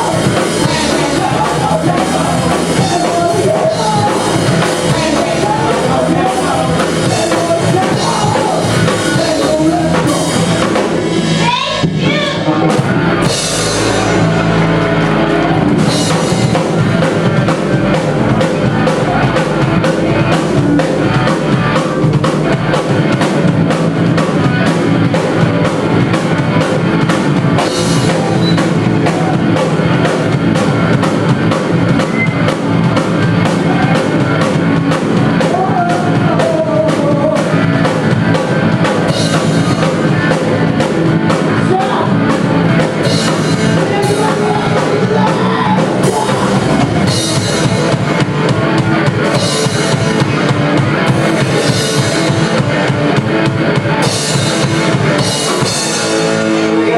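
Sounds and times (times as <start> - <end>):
drum kit beat: 0.0 - 56.9
rock band playing live: 0.0 - 56.9.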